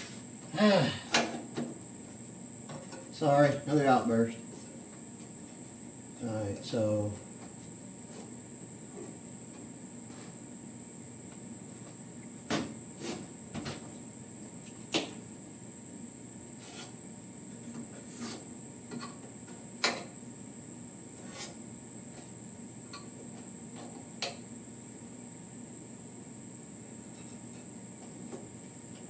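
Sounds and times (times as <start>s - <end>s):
steady high-pitched whine: 0.0s - 29.0s.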